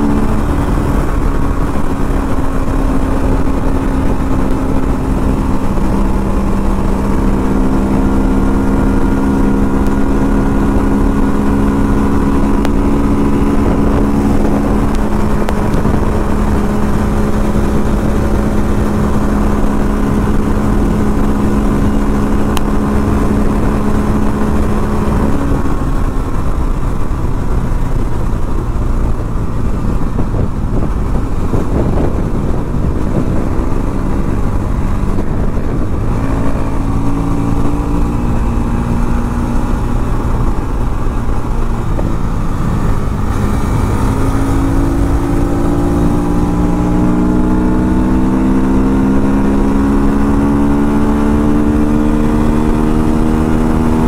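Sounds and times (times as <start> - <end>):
motorcycle engine running hard: 0.0 - 54.0
wind rush: 0.0 - 54.0.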